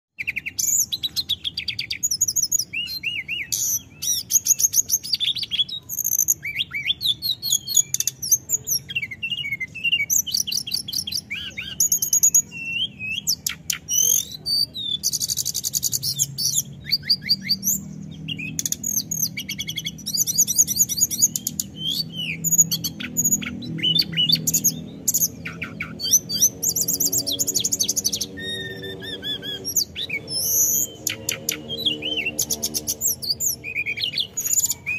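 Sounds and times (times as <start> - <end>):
bird singing trills: 0.2 - 34.9.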